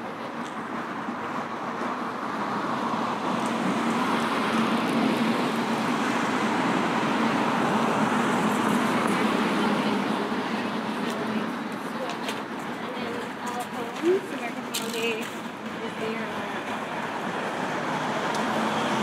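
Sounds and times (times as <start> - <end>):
vehicle passing on street: 0.0 - 19.0.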